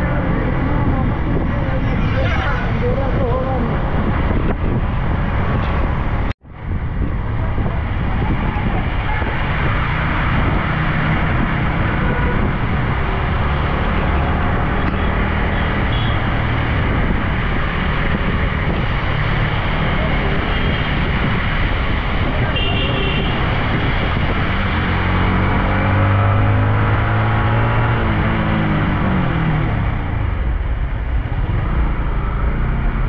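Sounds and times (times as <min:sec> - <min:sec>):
motorcycle road noise on wet road: 0:00.0 - 0:33.0
wind rush: 0:00.0 - 0:33.0.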